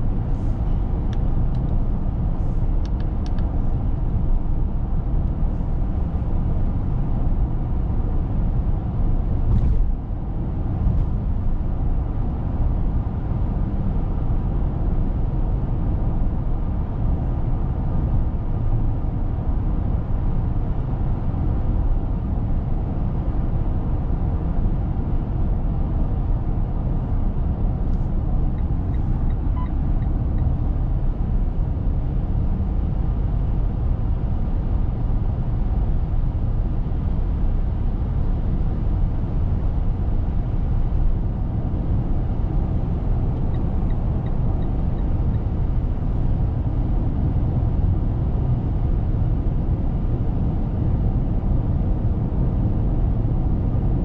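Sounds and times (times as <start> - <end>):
road noise inside car cabin: 0.0 - 54.0.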